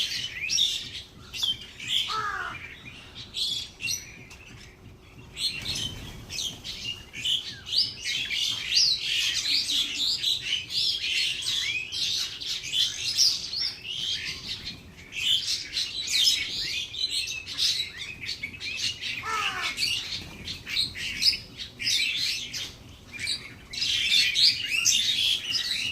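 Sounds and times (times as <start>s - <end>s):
flock of small birds chirping: 0.0s - 25.9s.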